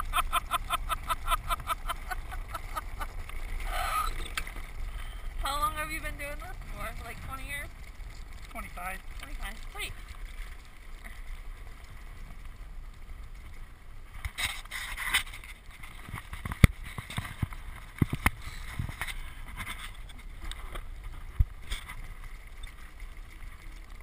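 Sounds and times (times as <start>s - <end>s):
wheels and air rumble: 0.0s - 24.0s.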